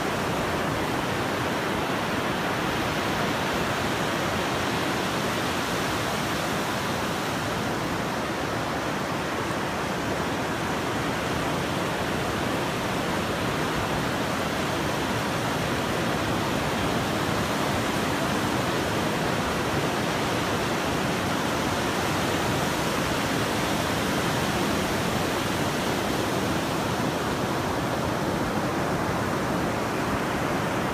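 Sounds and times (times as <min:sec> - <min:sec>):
surf washing on beach: 0:00.0 - 0:30.9.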